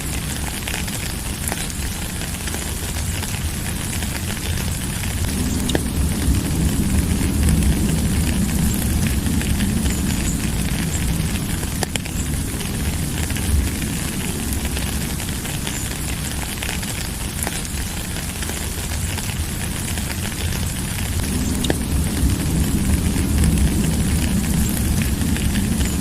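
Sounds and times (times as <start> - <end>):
low rumble: 0.0 - 26.0
raindrop ticks: 0.0 - 26.0
steady rain hiss: 0.0 - 26.0.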